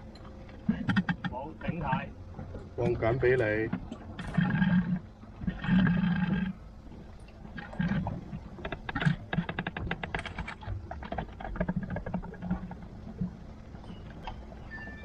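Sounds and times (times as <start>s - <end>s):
rapid irregular clicks and spits: 0.1s - 13.4s.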